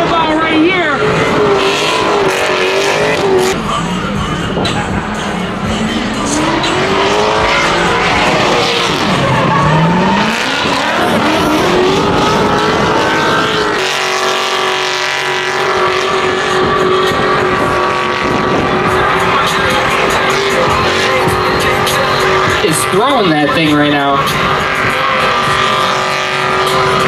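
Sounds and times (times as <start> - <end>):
car engine revving: 0.0 - 27.0
tires squealing: 0.0 - 27.0.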